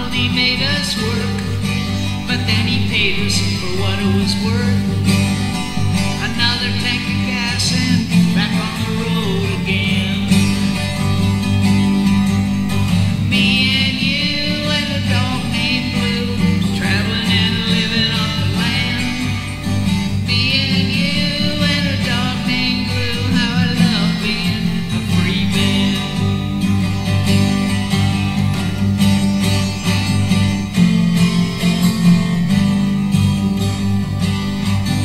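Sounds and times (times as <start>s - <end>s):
acoustic guitar playing folk: 0.0s - 35.0s.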